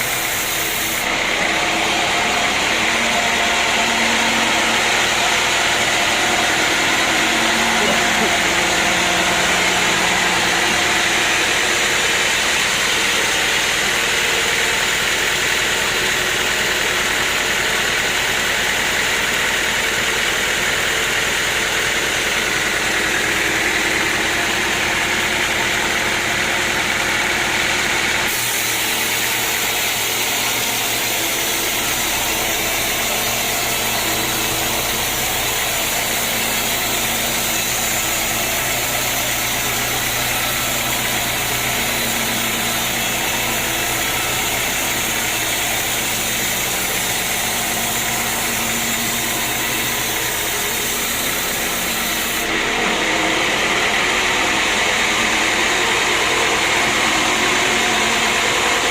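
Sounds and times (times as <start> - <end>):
sawmill machinery drone: 0.0 - 58.9.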